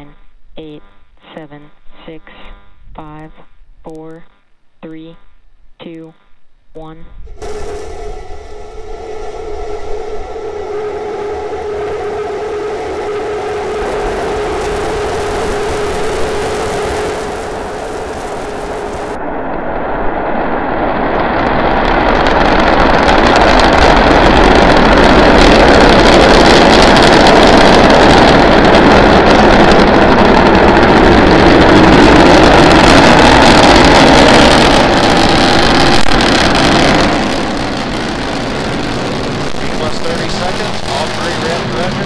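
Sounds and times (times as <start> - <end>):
rocket engine rumble: 7.1 - 42.0.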